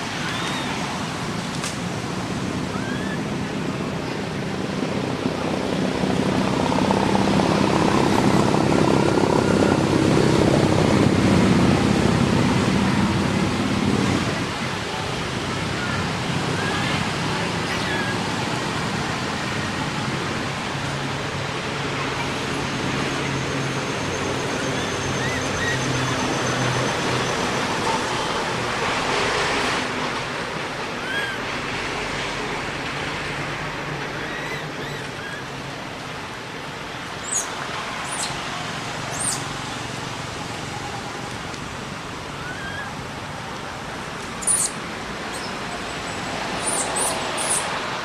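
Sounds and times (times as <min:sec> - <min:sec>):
outdoor background noise: 0:00.0 - 0:48.0.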